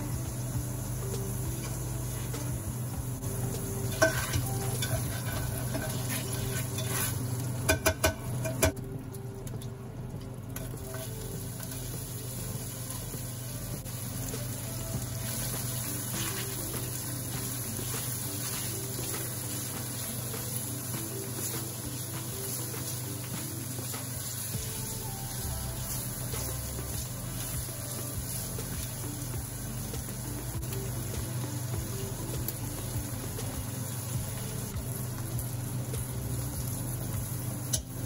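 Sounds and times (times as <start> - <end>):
onions sizzling in oil: 0.0 - 38.0.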